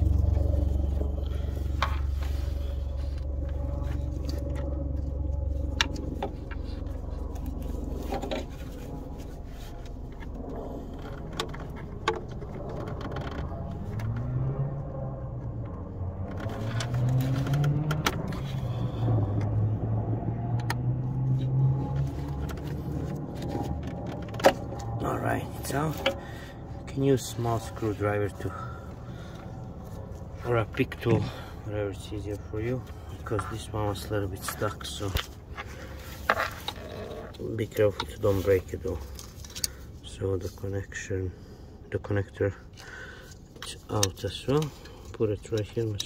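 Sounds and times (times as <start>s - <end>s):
motor vehicle engine: 0.0s - 40.0s
low hum: 0.0s - 43.6s.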